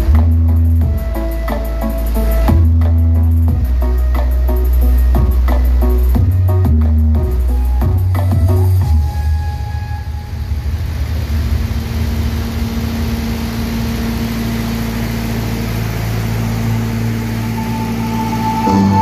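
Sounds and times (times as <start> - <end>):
generator engine humming: 0.0 - 19.0.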